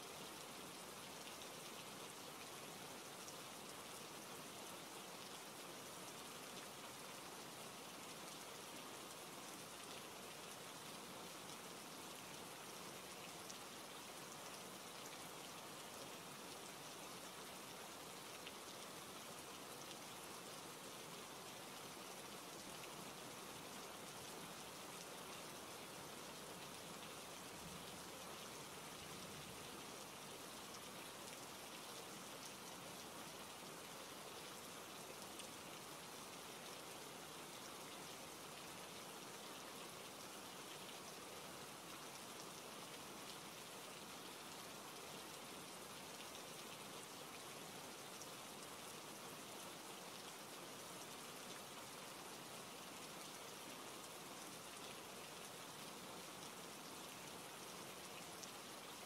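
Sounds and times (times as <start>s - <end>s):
faint steady rain: 0.0s - 59.0s.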